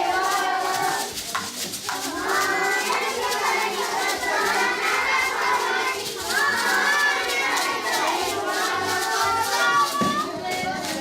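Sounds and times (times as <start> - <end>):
children talking and calling out: 0.0 - 11.0.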